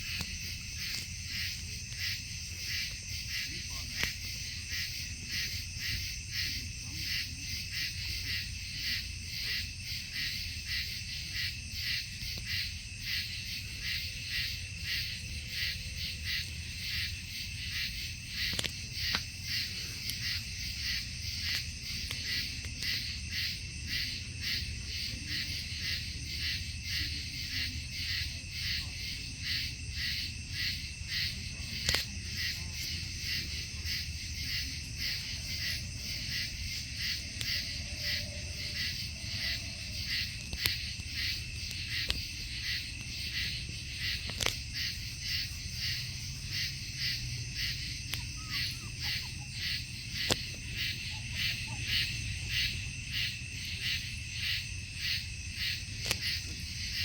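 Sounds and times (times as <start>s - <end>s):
night insects pulsing: 0.0s - 57.0s.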